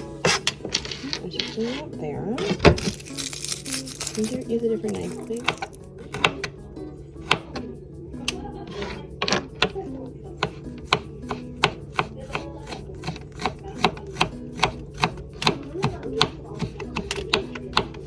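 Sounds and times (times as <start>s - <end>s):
knife chopping on cutting board: 0.2s - 3.1s, 4.3s - 6.6s, 7.2s - 18.0s.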